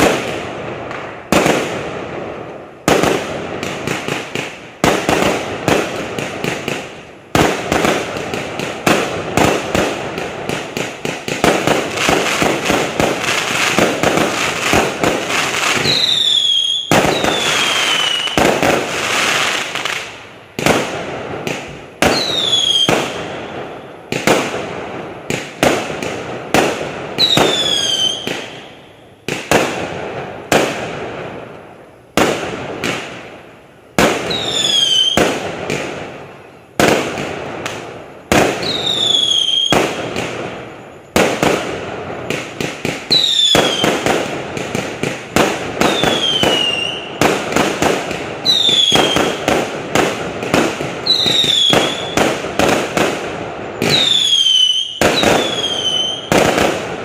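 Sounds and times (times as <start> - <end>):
fireworks bangs: 0.0 - 57.0
fireworks crackle: 0.0 - 57.0.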